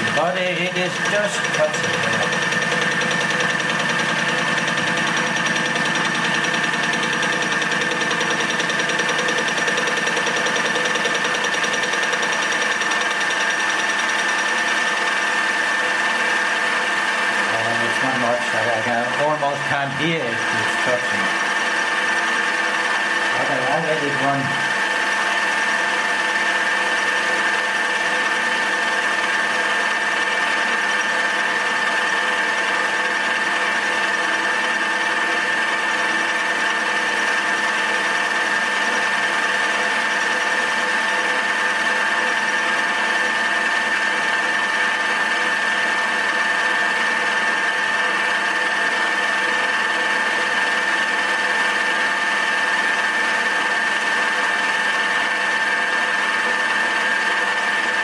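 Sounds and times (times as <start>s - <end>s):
milling machine whining: 0.0s - 58.0s.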